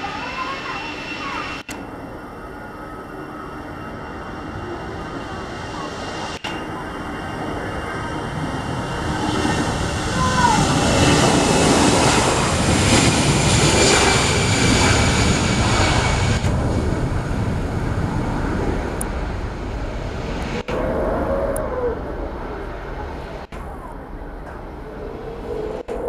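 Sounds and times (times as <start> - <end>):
airliner engines roaring: 0.0 - 26.0.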